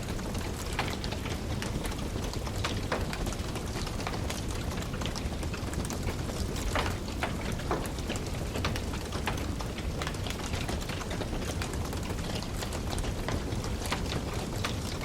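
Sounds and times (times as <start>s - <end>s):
fire crackling in a fireplace: 0.0s - 15.0s.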